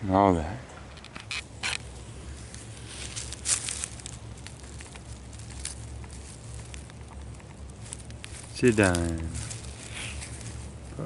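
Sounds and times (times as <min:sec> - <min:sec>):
low steady rumble: 0:00.0 - 0:11.0
dry grass and soil rustling: 0:00.9 - 0:11.0.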